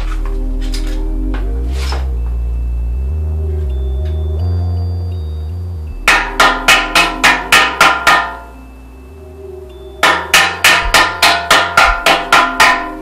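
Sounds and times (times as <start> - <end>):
held low notes: 0.0 - 13.0
repeated ringing struck notes: 0.0 - 13.0.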